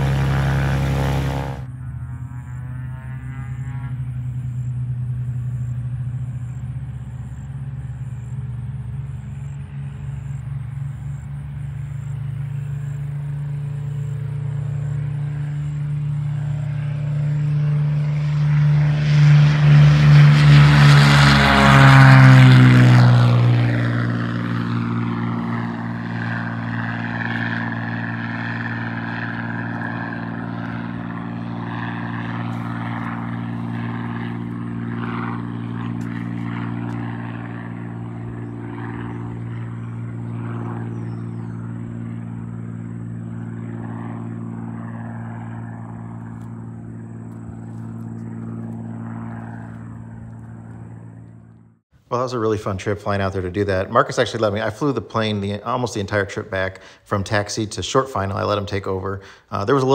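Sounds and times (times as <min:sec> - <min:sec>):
propeller airplane engine droning: 0:00.0 - 0:59.9.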